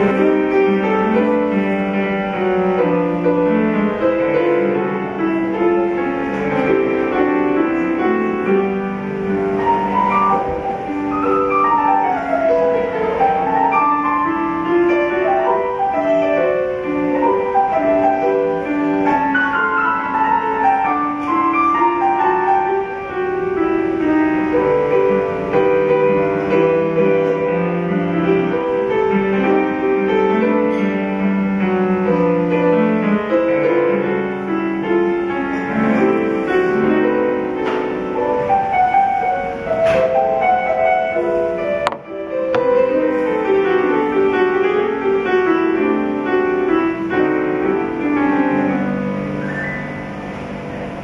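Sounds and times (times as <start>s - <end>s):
grand piano melody: 0.0s - 51.0s.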